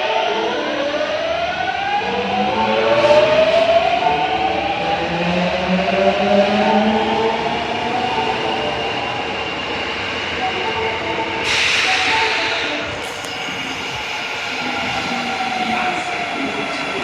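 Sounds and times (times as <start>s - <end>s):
subway train motor whine and rumble: 0.0s - 17.0s.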